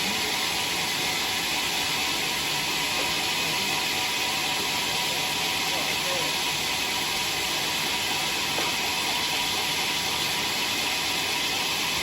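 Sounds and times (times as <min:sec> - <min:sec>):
sawmill saw cutting wood: 0:00.0 - 0:12.0.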